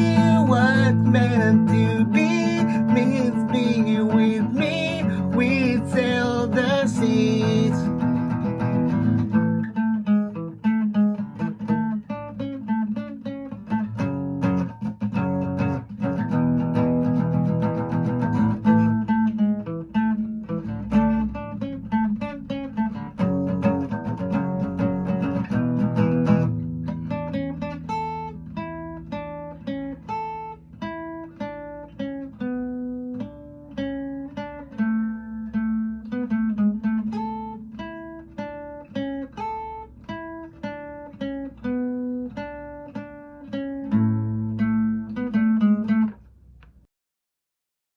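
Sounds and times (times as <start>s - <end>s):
acoustic guitar: 0.0s - 46.9s.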